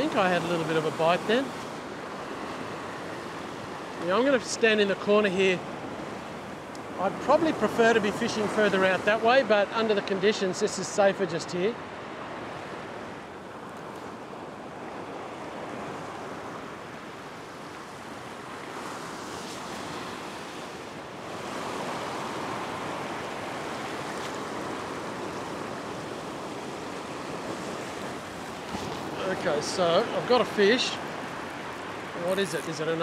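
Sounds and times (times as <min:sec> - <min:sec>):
ocean surf washing over rock: 0:00.0 - 0:33.0.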